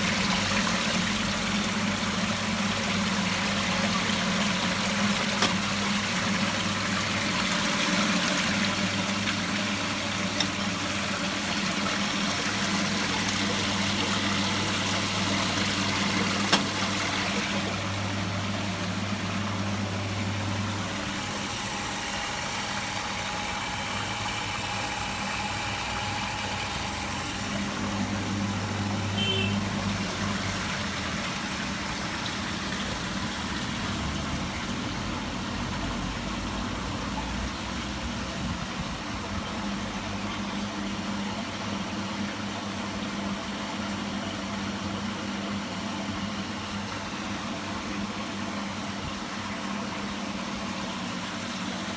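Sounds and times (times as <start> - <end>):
washing machine motor hum: 0.0 - 51.9.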